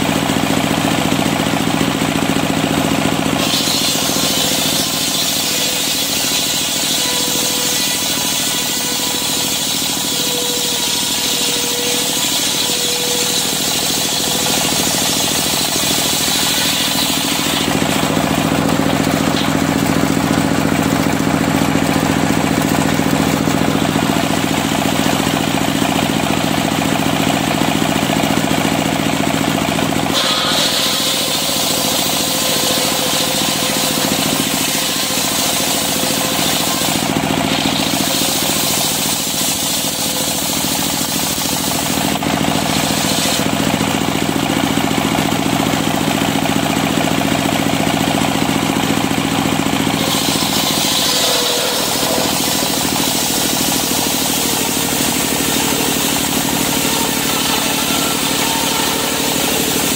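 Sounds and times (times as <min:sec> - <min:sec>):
engine running under load: 0:00.0 - 0:59.9
circular saw ripping log: 0:02.8 - 0:28.5, 0:29.7 - 0:45.9, 0:48.8 - 0:59.9.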